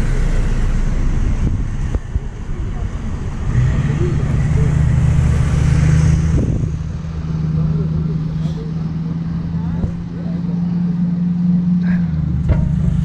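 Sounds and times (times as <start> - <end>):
traffic noise: 0.0 - 13.0
vehicle engine humming: 0.0 - 13.0.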